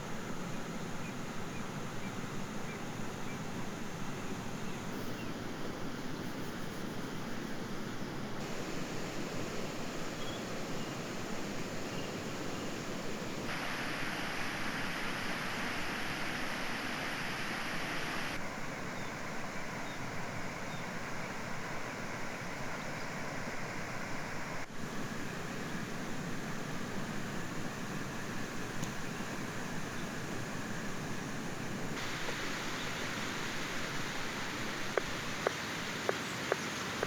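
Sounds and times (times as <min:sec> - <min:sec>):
outdoor background hiss: 0:00.0 - 0:37.0.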